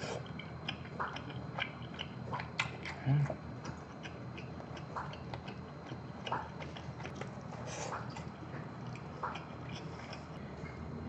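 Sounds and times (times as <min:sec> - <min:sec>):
close chewing mouth sounds: 0:00.0 - 0:10.9.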